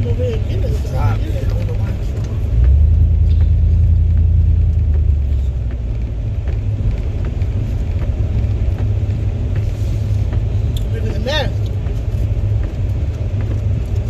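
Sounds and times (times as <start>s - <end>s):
car road noise inside cabin: 0.0s - 14.0s.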